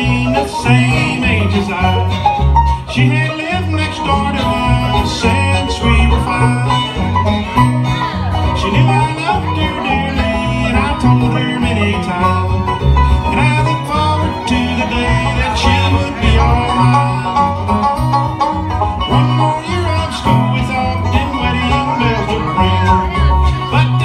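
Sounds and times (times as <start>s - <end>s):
bluegrass band playing: 0.0s - 24.0s
fiddle: 0.0s - 24.0s
guitars: 0.0s - 24.0s.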